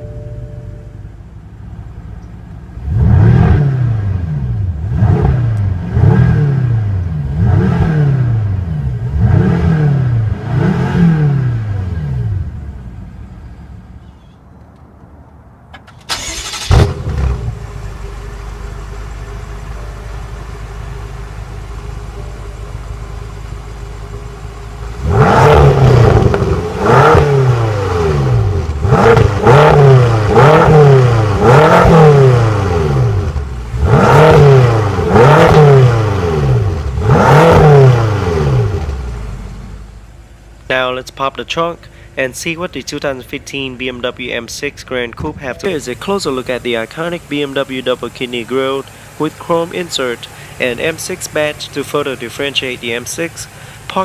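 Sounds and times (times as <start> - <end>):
car engine starting and idling: 0.0 - 54.0
car engine revving: 1.6 - 13.1, 16.1 - 41.0, 42.6 - 54.0.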